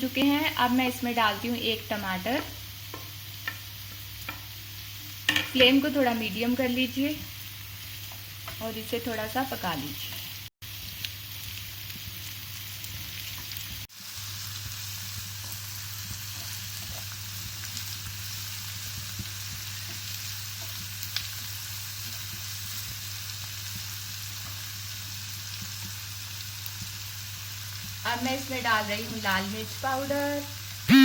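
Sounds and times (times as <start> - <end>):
onion and tomato sizzling in a pan: 0.0 - 31.0.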